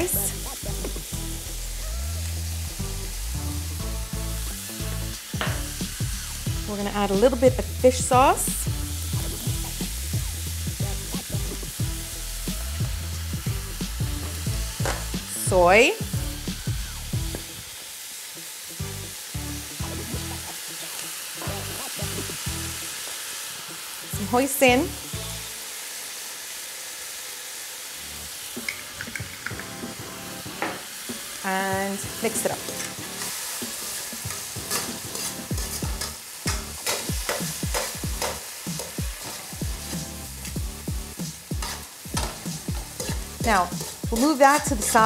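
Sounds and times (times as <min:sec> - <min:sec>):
background music: 0:00.0 - 0:25.9, 0:28.0 - 0:45.0
vegetables sizzling in a pan: 0:00.0 - 0:45.0.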